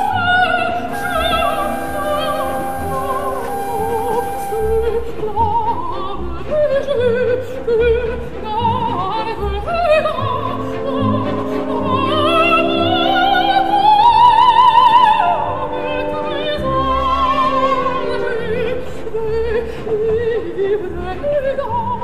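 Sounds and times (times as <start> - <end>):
operatic singing with orchestra: 0.0 - 22.0.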